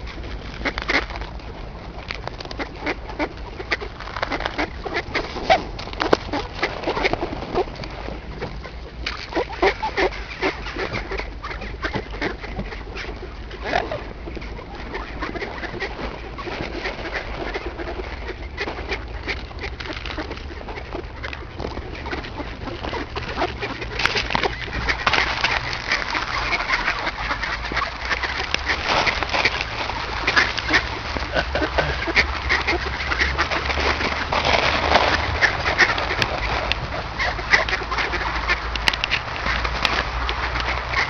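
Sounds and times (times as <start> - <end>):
ducks quacking: 0.0 - 41.0.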